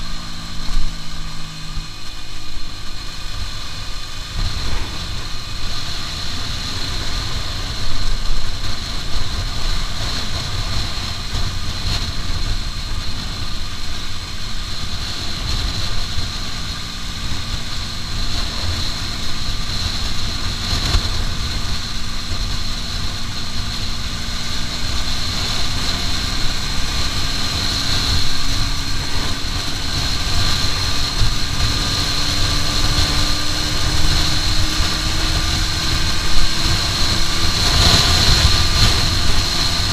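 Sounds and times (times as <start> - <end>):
motorcycle engine revving high: 0.0 - 39.9
wind buffeting microphone: 0.0 - 39.9.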